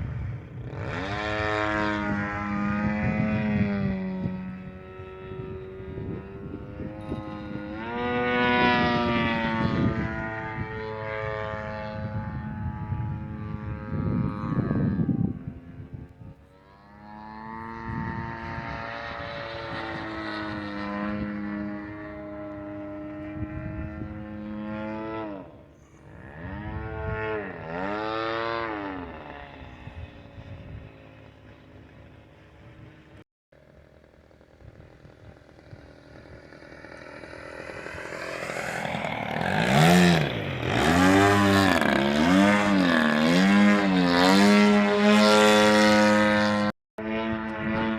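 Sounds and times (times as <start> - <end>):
model airplane engine buzzing: 0.0 - 47.9.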